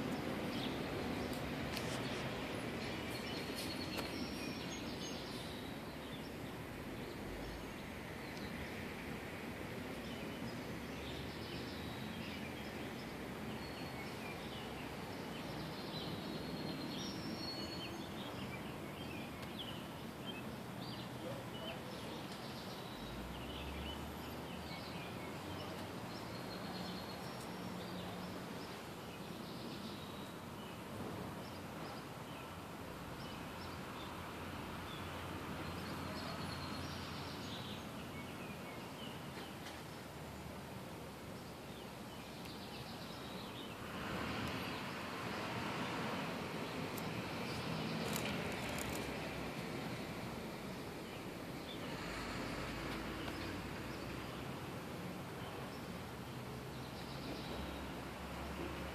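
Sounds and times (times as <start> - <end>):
outdoor background noise: 0.0 - 58.9.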